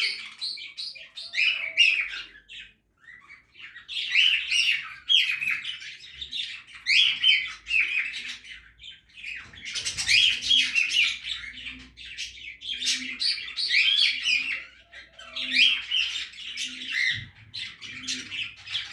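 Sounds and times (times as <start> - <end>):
budgerigars chirping: 0.0 - 18.9.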